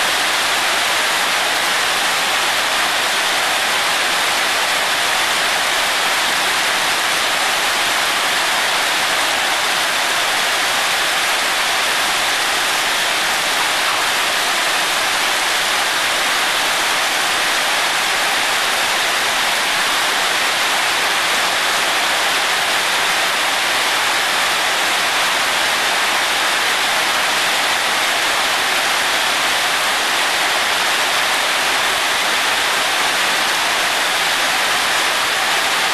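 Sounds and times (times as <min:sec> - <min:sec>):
heavy rain on paving and puddles: 0:00.0 - 0:35.9.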